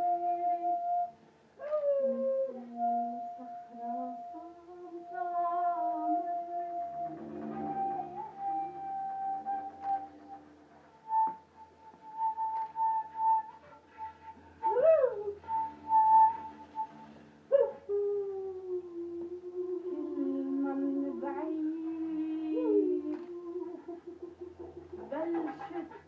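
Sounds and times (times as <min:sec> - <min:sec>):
slow music of long held notes: 0:00.0 - 0:25.1.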